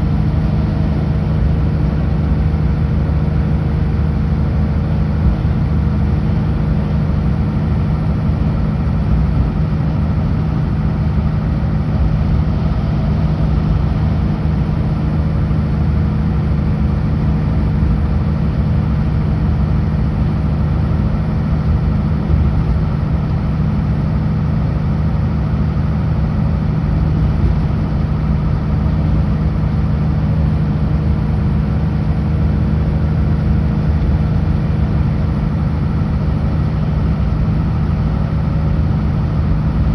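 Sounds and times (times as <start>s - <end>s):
road noise: 0.0s - 39.9s
truck diesel engine droning: 0.0s - 39.9s.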